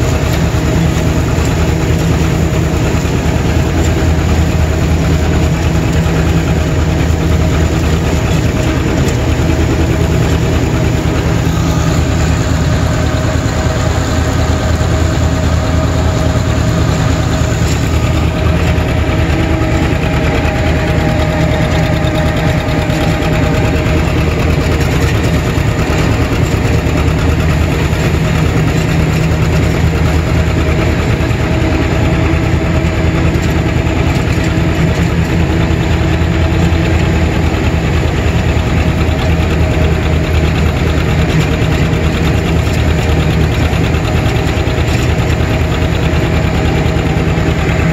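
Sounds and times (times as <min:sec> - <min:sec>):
tractor engine running under load: 0:00.0 - 0:47.9.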